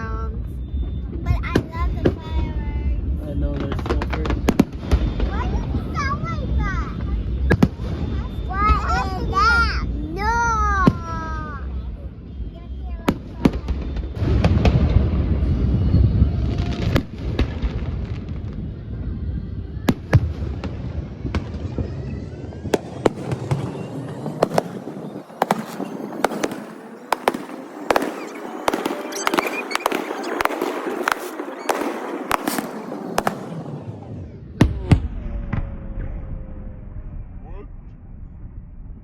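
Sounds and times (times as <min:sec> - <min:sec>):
fireworks bangs: 0:00.0 - 0:36.0
low rumble: 0:00.0 - 0:39.0
fireworks crackling: 0:01.1 - 0:11.9, 0:12.6 - 0:34.9.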